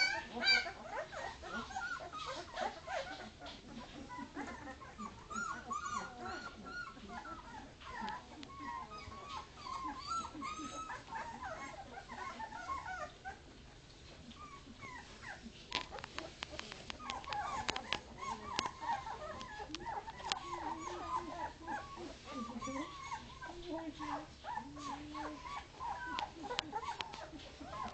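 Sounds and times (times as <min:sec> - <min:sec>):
puppies crying: 0:00.0 - 0:27.9.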